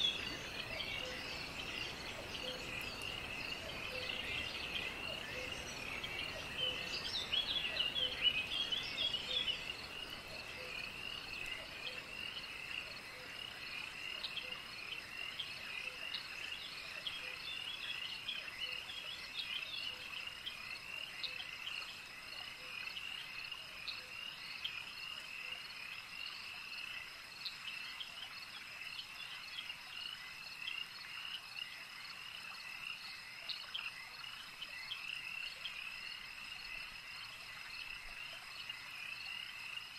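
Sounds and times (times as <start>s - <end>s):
frogs calling: 0.0s - 39.9s
insects chirping: 0.0s - 39.9s.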